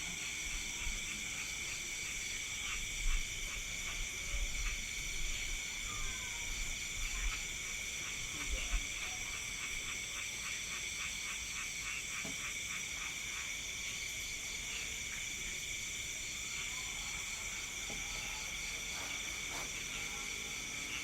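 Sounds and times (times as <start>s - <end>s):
low pulsing insect call: 0.0s - 21.0s.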